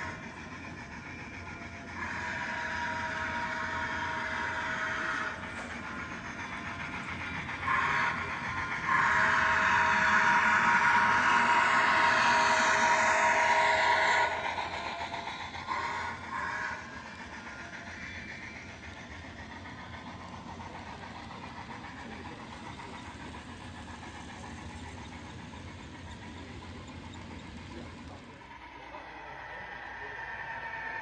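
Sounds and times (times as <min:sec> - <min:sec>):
model locomotive running noise: 0:00.0 - 0:31.0.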